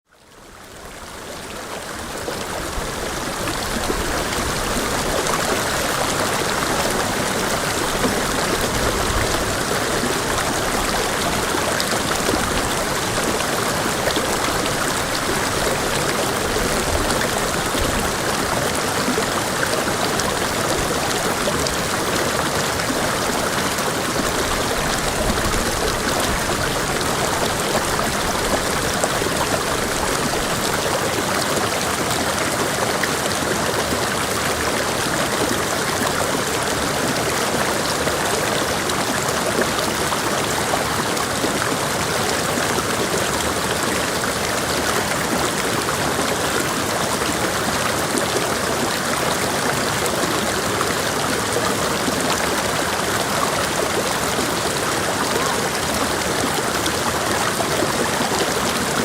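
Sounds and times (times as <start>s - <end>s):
creek water rushing over rocks: 0.1s - 59.0s.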